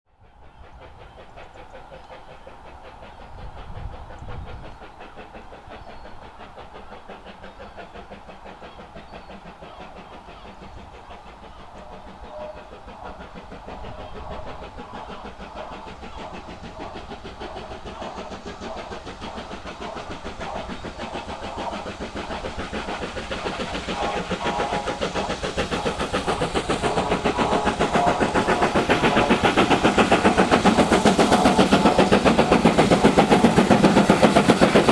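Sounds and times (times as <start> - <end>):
steam locomotive exhaust beats: 0.1 - 34.9.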